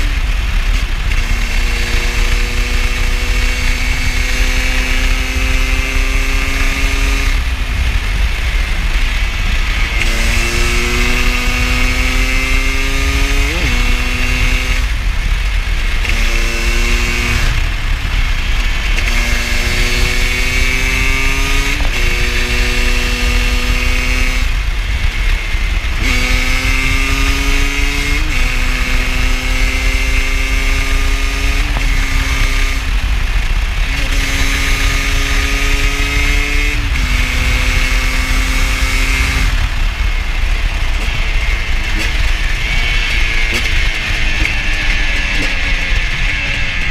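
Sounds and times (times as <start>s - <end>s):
motorcycle engine under throttle: 0.0s - 46.9s
wind rumble on microphone: 0.0s - 46.9s.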